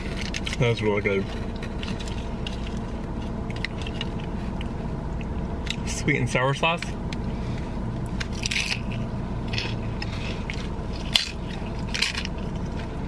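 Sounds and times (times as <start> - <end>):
biting and chewing food: 0.0 - 5.9, 8.0 - 13.0
car air conditioning hum: 0.0 - 13.0.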